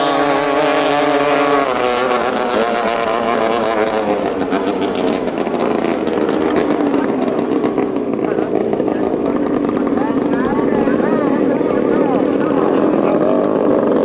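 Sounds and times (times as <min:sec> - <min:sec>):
speedboat engine revving: 0:00.0 - 0:14.0.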